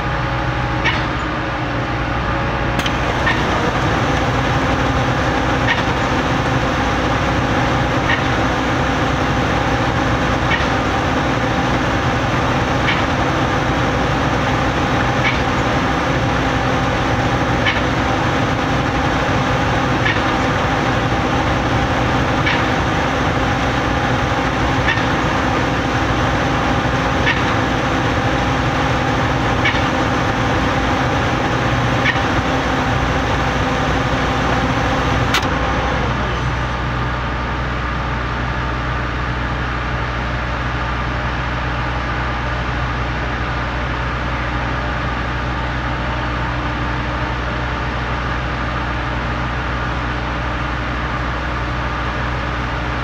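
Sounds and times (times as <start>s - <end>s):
concrete pump running: 0.0s - 53.0s.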